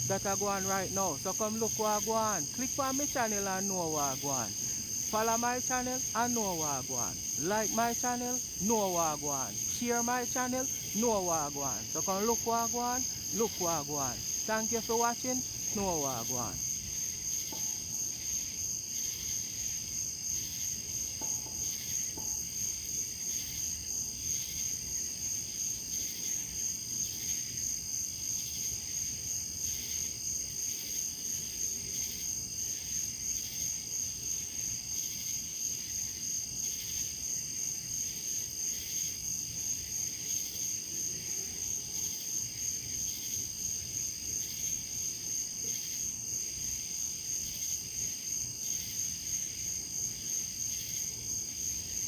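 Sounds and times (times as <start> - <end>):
insects chirping: 0.0 - 52.0.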